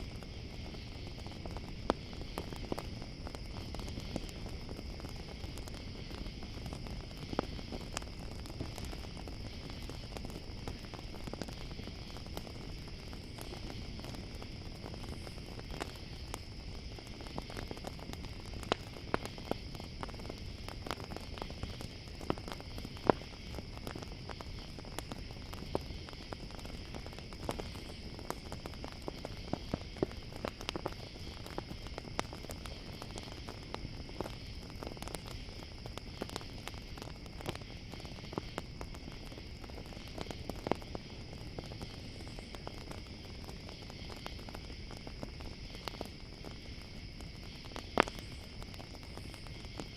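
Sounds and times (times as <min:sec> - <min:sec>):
campfire crackling: 0:00.0 - 0:49.9
crickets chirping: 0:00.0 - 0:49.9.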